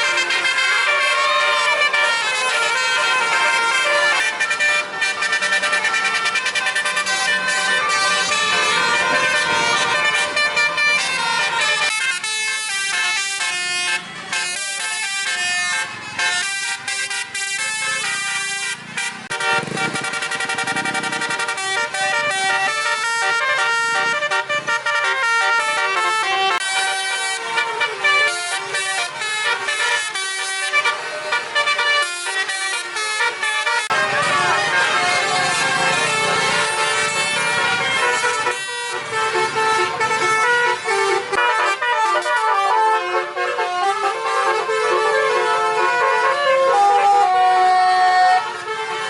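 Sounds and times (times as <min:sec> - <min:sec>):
bus air horns playing melodies: 0:00.0 - 0:49.0.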